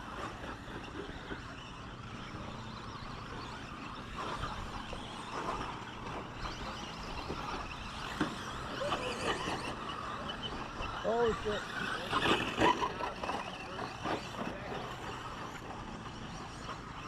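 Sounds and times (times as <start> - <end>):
toy car motors whining: 0.0 - 17.0.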